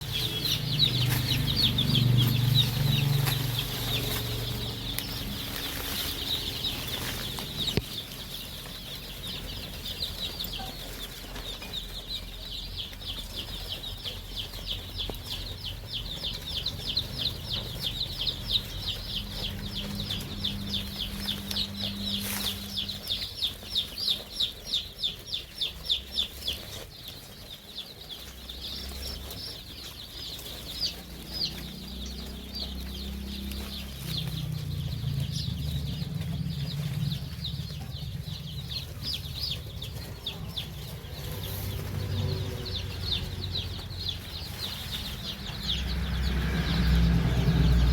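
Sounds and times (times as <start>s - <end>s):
chickens peeping: 0.0s - 47.9s.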